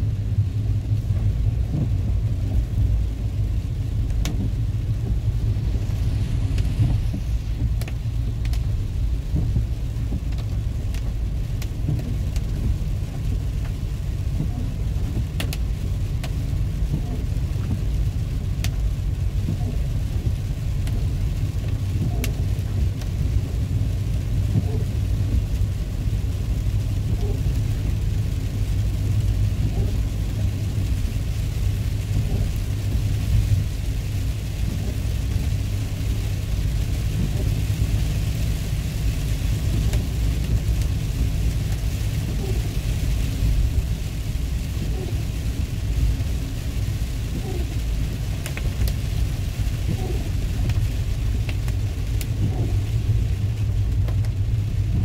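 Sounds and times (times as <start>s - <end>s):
rain on car: 0.0s - 55.0s
road and engine rumble: 0.0s - 55.0s
tyres hissing on wet pavement: 0.0s - 55.0s.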